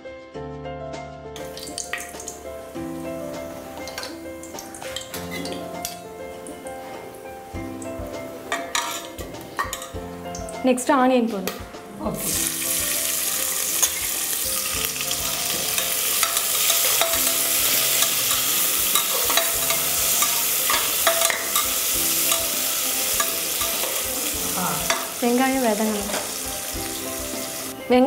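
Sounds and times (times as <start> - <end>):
onions sizzling in hot oil: 1.4 - 10.5, 12.2 - 28.0.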